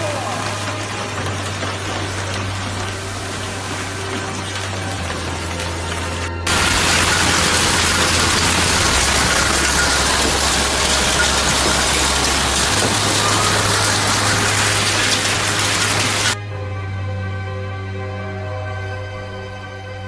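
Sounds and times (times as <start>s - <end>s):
low sustained music notes: 0.0s - 20.0s.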